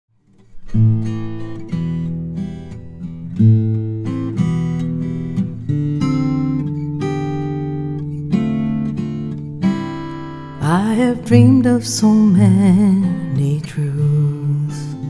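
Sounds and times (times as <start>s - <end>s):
solo guitar chords ringing: 0.4s - 15.0s.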